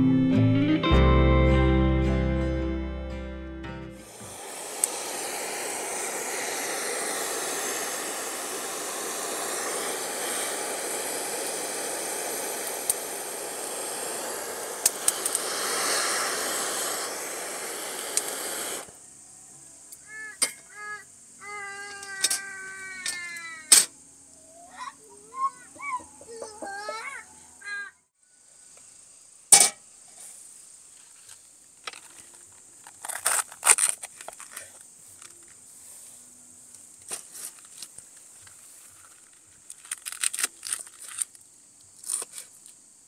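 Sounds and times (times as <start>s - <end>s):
high-pitched insect trill: 4.0s - 43.0s
steady hiss: 4.0s - 43.0s.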